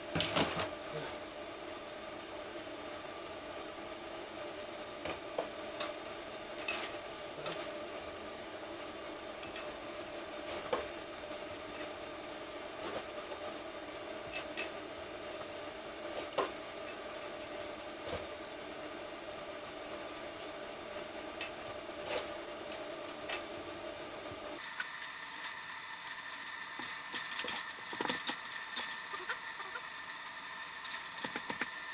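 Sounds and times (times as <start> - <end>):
steady hum: 0.0 - 31.9.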